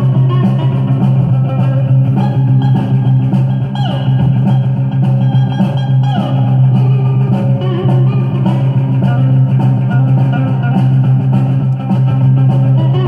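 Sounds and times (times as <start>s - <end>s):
surf rock with drums and guitar: 0.0s - 13.0s.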